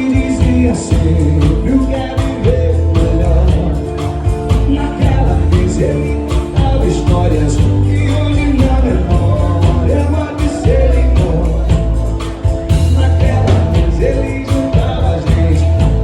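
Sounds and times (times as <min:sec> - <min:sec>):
bass notes: 0:00.0 - 0:16.0
percussion beat: 0:00.0 - 0:16.0
person singing: 0:00.0 - 0:16.0.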